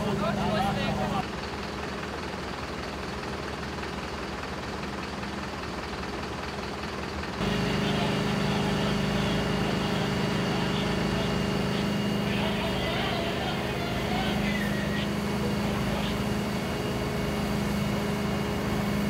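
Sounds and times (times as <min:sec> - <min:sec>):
fire engine droning: 0:00.0 - 0:19.0
vehicle engine idling: 0:00.0 - 0:19.0.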